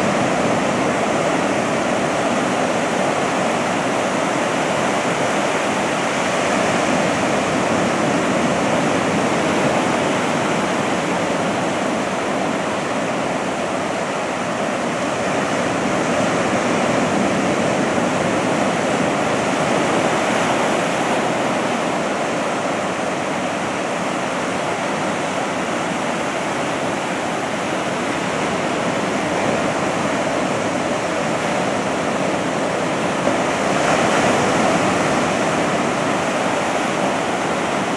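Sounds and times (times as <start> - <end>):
ocean surf breaking: 0.0 - 37.9.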